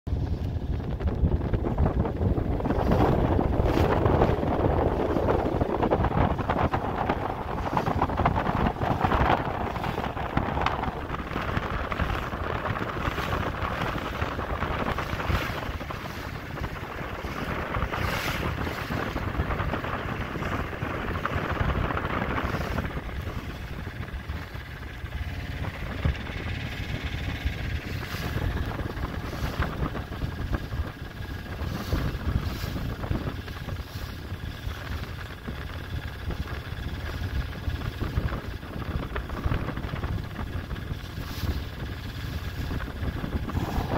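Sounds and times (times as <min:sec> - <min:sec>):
boat engine rumble: 0:00.1 - 0:43.9
water rushing past hull: 0:00.1 - 0:43.9
wind buffeting microphone: 0:00.1 - 0:43.9.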